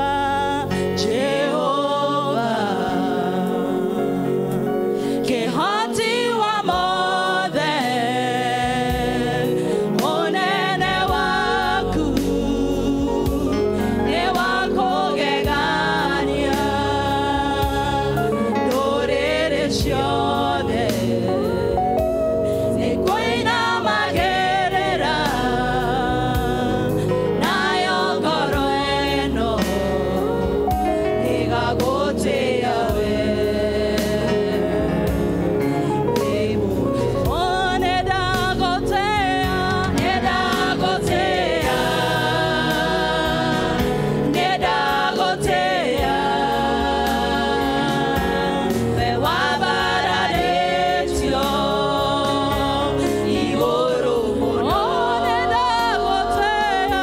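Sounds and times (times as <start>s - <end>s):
musical accompaniment with bass: 0.0s - 57.0s
women singing gospel song: 0.0s - 57.0s.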